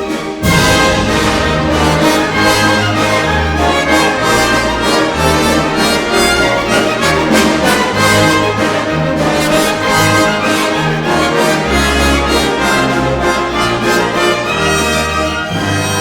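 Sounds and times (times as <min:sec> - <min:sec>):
brass-led orchestral music: 0:00.0 - 0:16.0.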